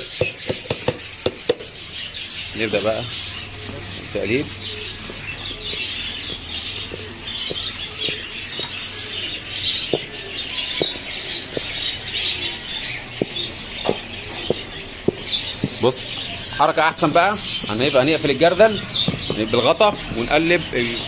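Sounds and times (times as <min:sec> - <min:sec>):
hands stirring dry powder: 0:00.0 - 0:21.0.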